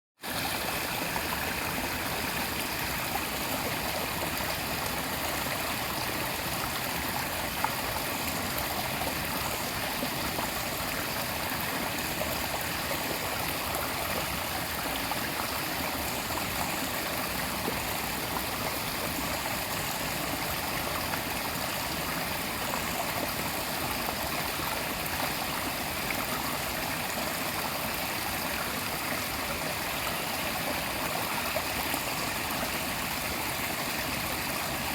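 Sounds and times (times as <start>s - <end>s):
stream babbling: 0.2s - 34.9s.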